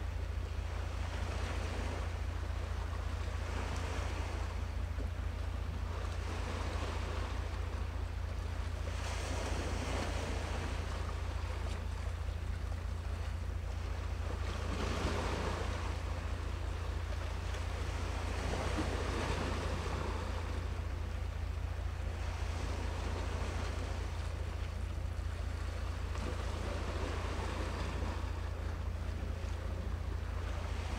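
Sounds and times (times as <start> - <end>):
sea waves washing: 0.0 - 30.9
wind rumble on microphone: 0.0 - 30.9.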